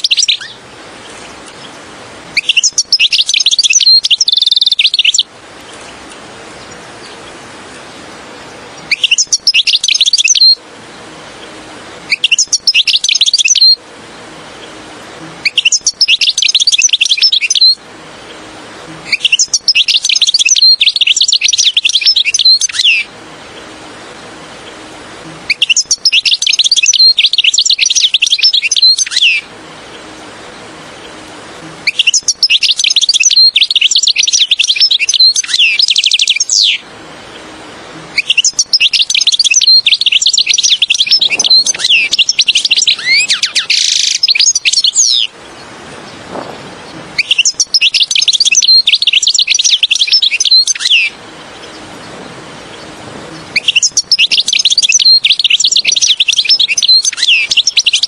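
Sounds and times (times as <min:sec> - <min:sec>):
finch singing: 0:00.0 - 0:58.0.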